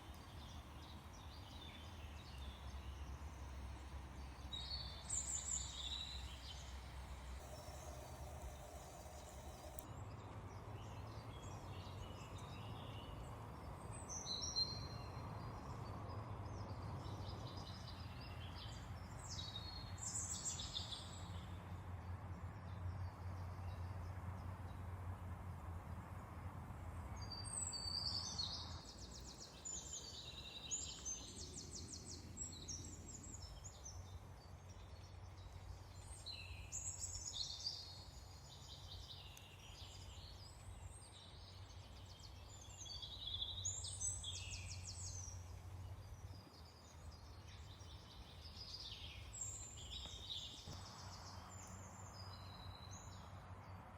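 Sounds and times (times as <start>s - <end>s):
songbirds singing: 0.0s - 26.3s, 26.9s - 53.9s.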